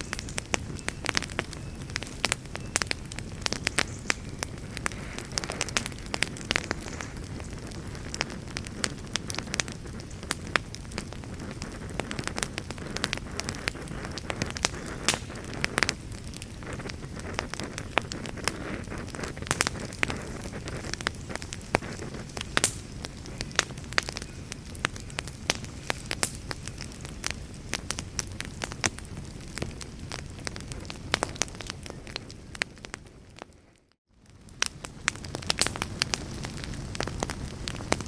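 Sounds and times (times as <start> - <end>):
campfire burning: 0.0 - 38.0.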